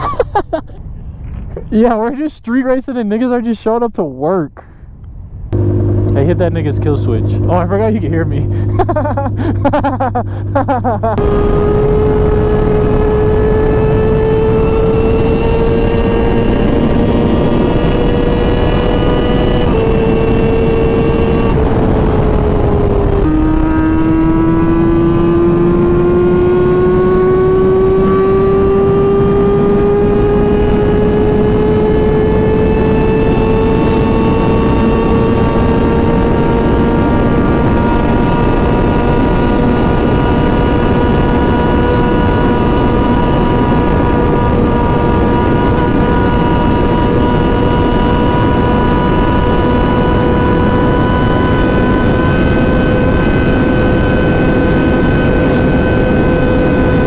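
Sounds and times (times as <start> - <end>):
motorcycle engine at high revs: 5.5 - 57.0
wind rush: 11.2 - 57.0.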